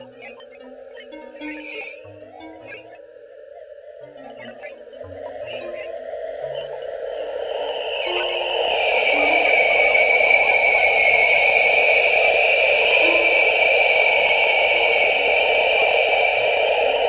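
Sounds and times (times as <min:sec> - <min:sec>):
shimmering synthesized drone: 0:00.0 - 0:17.0.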